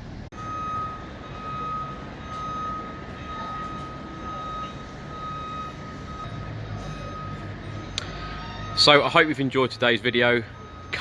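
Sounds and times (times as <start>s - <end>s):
low traffic rumble: 0.0s - 11.0s
high warning alarm tone: 0.3s - 11.0s.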